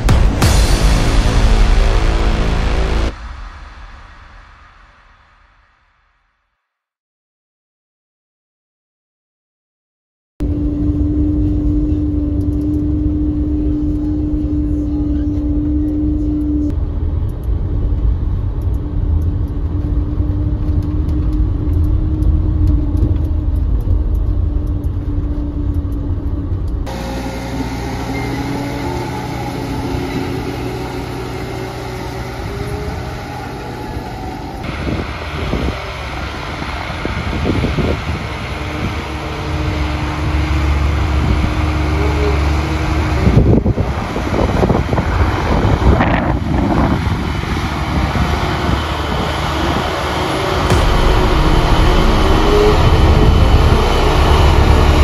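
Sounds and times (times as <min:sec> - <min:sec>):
diesel engine running under load: 0:10.4 - 0:55.0.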